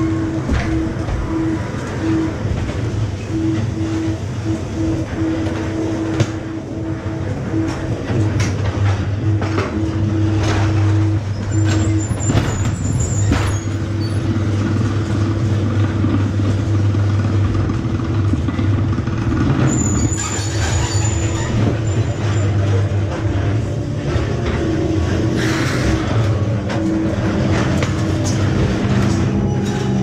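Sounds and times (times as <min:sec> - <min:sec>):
knocks and clatter: 0:00.0 - 0:30.0
ride car low hum: 0:00.0 - 0:30.0.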